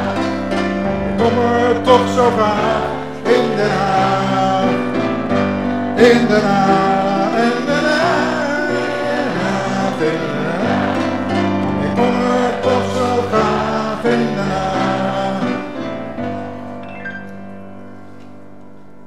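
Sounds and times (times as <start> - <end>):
person singing: 0.0 - 16.5
grand piano chords: 0.0 - 19.0.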